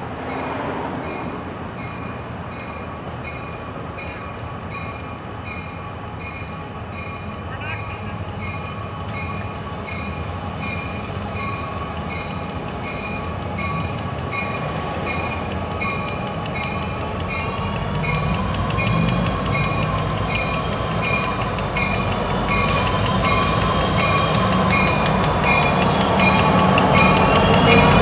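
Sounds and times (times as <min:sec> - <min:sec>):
diesel locomotive engine rumble: 0:00.0 - 0:28.0
locomotive bell ringing: 0:00.2 - 0:28.0.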